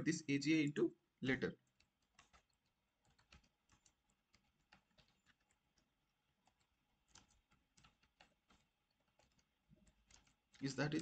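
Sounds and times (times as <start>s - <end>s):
typing on computer keyboard: 1.4s - 11.0s.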